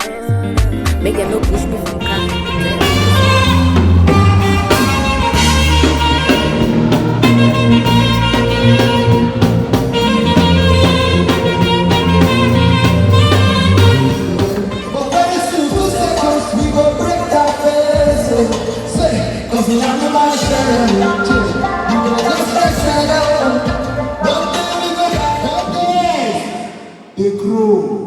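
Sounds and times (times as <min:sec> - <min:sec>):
instrumental afrobeat music: 0:00.0 - 0:26.1.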